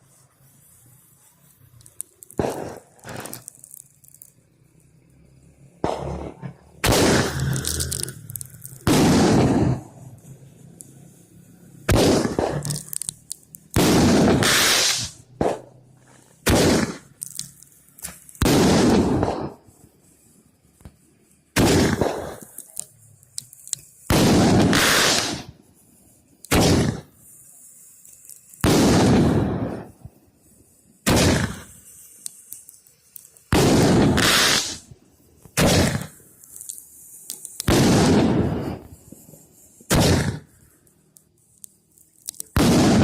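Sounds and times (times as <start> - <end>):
fireworks bangs: 0.0 - 41.0, 41.7 - 43.0
faint fireworks crackling: 0.0 - 43.0.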